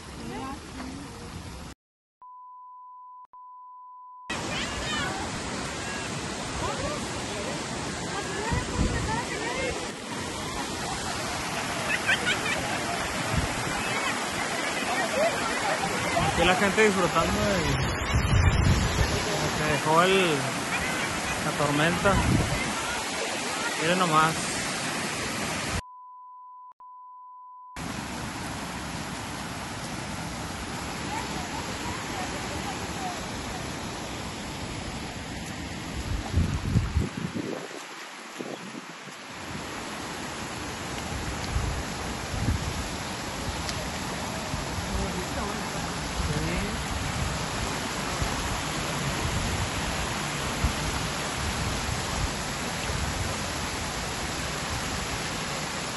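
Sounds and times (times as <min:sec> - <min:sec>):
water rushing into a stream: 0:04.3 - 0:25.8, 0:27.8 - 0:55.9.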